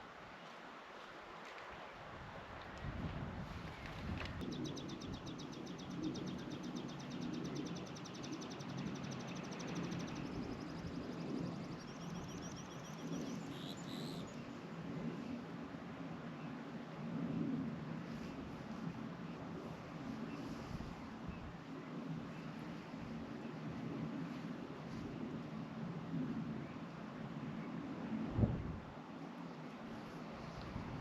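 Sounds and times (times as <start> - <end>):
low wind rumble: 1.9 - 31.0.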